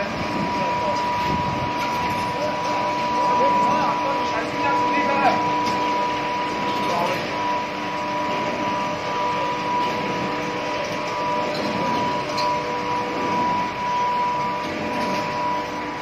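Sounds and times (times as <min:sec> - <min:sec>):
induction furnace whine: 0:00.0 - 0:16.0.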